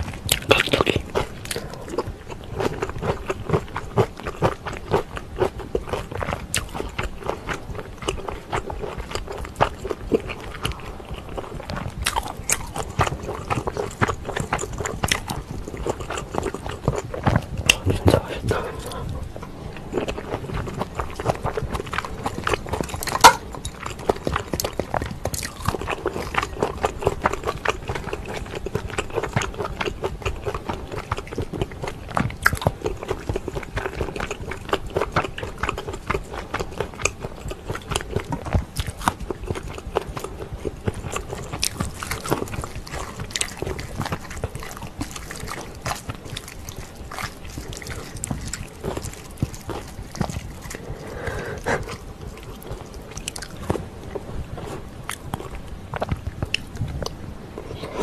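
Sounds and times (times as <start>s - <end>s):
chewing and wet mouth sounds: 0.0s - 58.0s.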